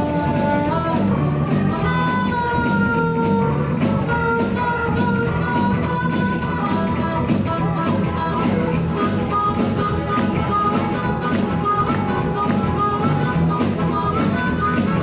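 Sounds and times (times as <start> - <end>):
harmonica bending notes: 0.0 - 15.0
high percussion beat: 0.0 - 15.0
live blues band: 0.0 - 15.0.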